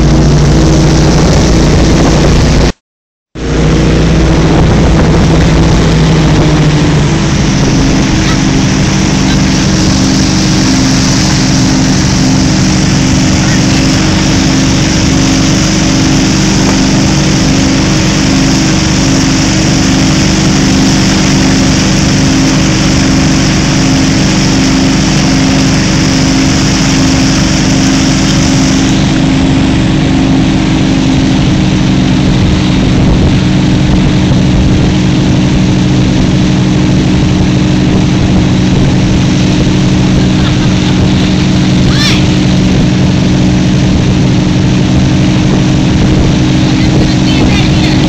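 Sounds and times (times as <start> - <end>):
water rushing in wake: 0.0 - 2.8, 3.4 - 48.0
boat engine running: 0.0 - 48.0.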